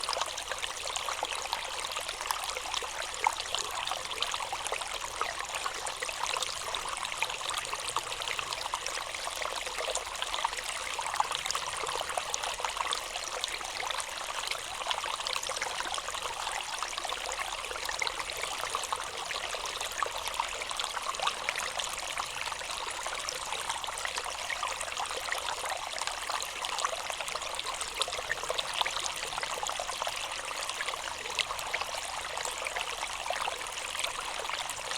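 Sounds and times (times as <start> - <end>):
water trickling and splashing: 0.0 - 34.9.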